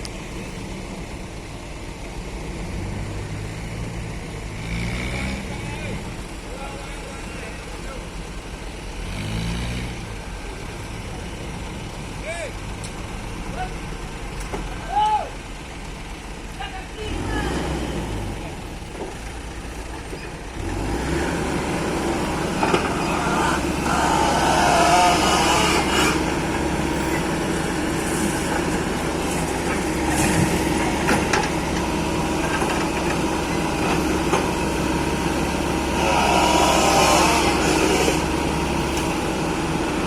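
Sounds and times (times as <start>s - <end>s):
excavator diesel engine: 0.0s - 40.0s.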